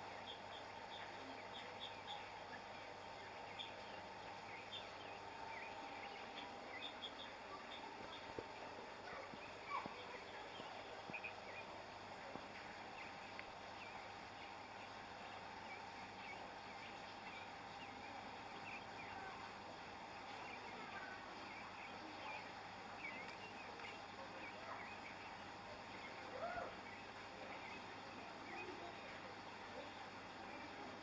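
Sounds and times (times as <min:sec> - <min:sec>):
small birds chirping: 0:00.0 - 0:31.0
steady background hum: 0:00.0 - 0:31.0.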